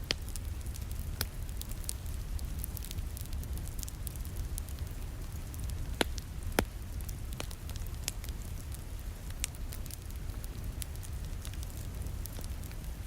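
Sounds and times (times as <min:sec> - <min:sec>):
soft rain: 0:00.0 - 0:13.0
wood fire crackling: 0:00.0 - 0:13.0.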